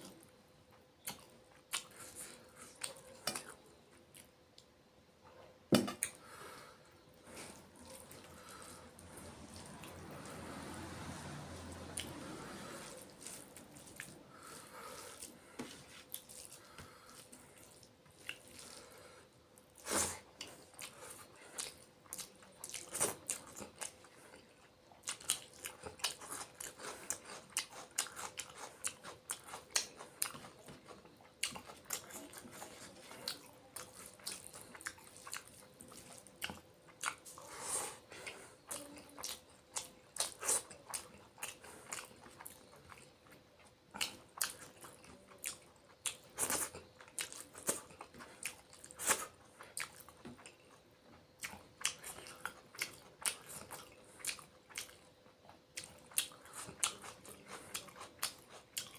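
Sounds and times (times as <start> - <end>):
close chewing with wet smacks: 1.0 - 4.7, 12.8 - 18.9, 19.6 - 37.5, 38.2 - 58.9.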